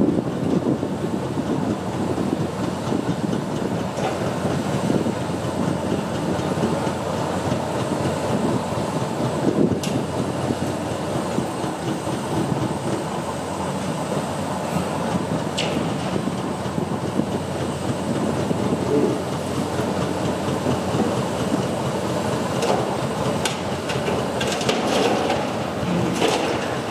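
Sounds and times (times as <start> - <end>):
excavator engine and hydraulics rumble: 0.0 - 26.9.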